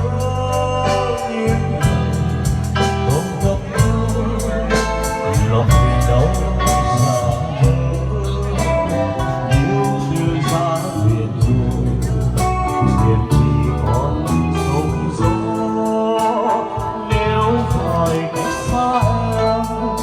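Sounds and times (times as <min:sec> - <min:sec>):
instrumental ballad music: 0:00.0 - 0:20.0.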